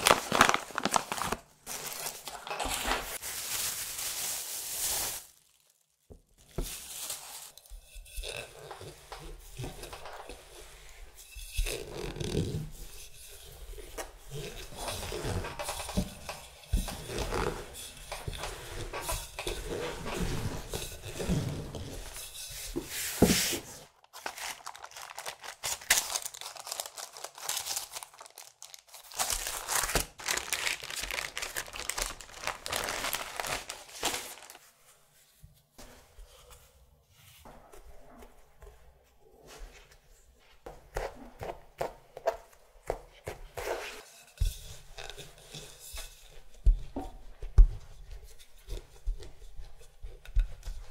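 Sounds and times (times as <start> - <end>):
hands rubbing and peeling dough: 3.0 - 50.9.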